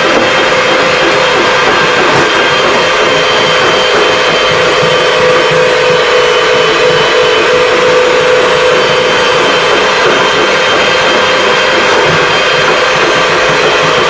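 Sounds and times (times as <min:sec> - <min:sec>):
motor-driven machine running: 0:00.0 - 0:14.0.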